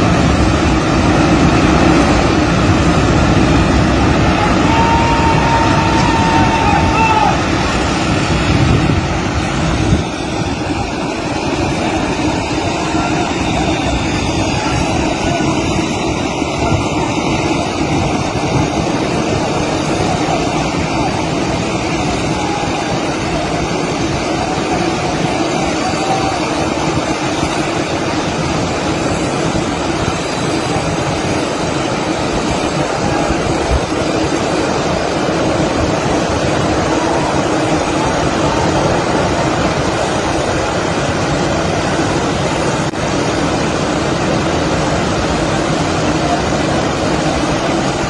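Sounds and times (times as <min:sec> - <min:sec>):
floodwater pouring down cliff: 0:00.0 - 0:48.0.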